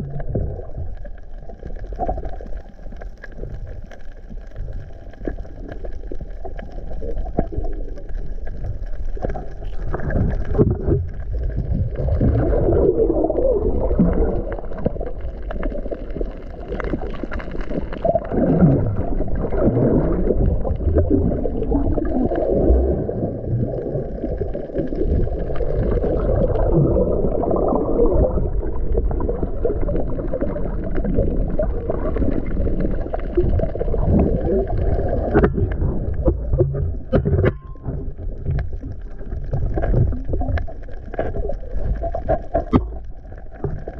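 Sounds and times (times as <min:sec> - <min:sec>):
underwater water sloshing: 0:00.0 - 0:43.9.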